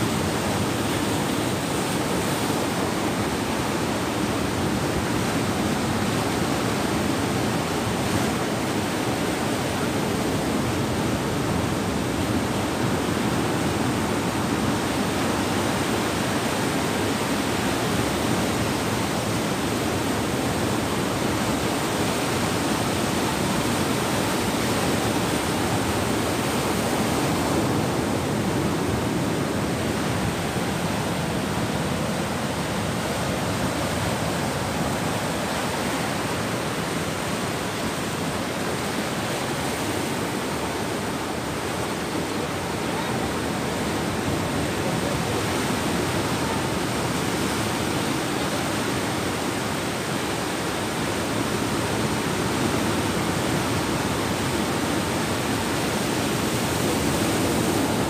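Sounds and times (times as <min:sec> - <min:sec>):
sea waves on rocky shore: 0:00.0 - 0:58.0.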